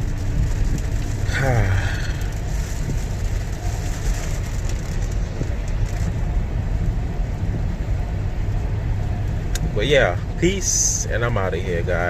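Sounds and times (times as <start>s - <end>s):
car driving rumble: 0.0s - 12.0s
rain hiss: 0.0s - 12.0s
road noise: 0.0s - 12.0s.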